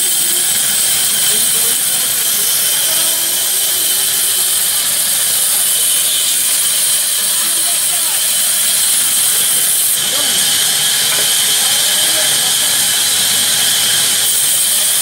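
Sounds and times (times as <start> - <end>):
band saw cutting a log: 0.0 - 15.0.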